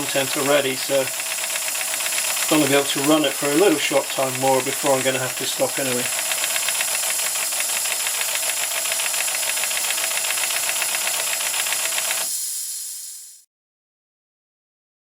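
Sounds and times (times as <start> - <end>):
steam leaking: 0.0 - 13.4
steam locomotive hissing: 0.0 - 13.4.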